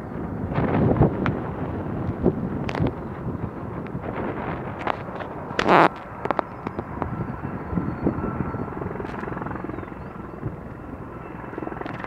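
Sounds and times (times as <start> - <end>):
helicopter rotor beat: 0.0 - 12.0
helicopter turbines rumbling: 0.0 - 12.0.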